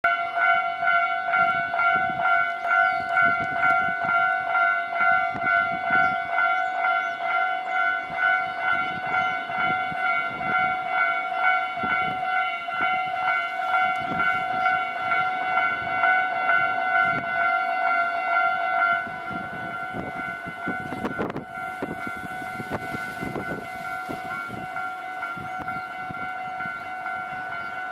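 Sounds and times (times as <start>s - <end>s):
level crossing bell ringing: 0.1s - 27.9s.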